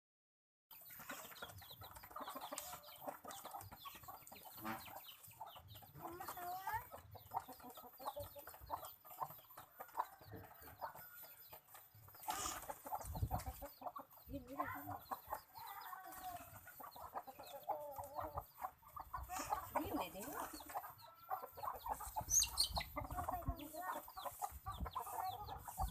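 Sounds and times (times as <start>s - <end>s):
birds chirping and clucking: 0.7s - 25.9s.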